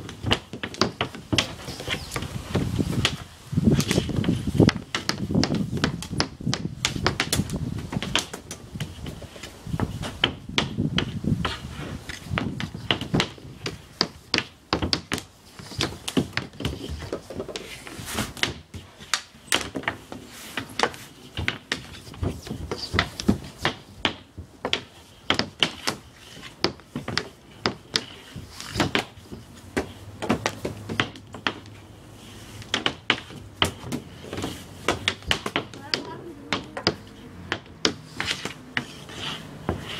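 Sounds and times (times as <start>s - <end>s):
balls knocking off pads: 0.0s - 11.5s, 12.1s - 31.8s, 32.6s - 39.9s
hockey sticks clacking balls: 0.0s - 39.9s.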